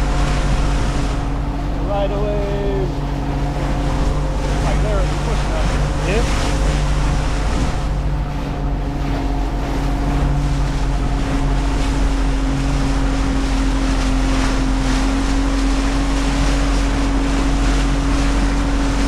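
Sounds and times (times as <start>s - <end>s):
motorboat engine running: 0.0s - 19.0s
rushing water and spray: 0.0s - 19.0s
wind on microphone: 0.0s - 19.0s.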